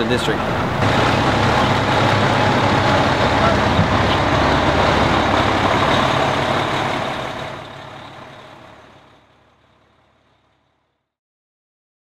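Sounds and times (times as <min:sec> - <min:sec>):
diesel engine running: 0:00.0 - 0:10.9.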